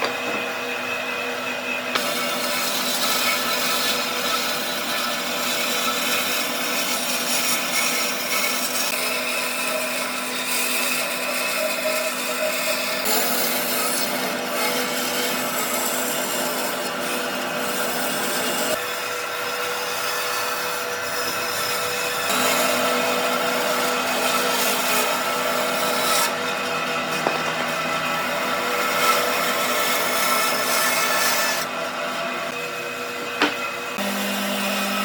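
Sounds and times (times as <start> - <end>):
power tool sanding wood: 0.0 - 35.0.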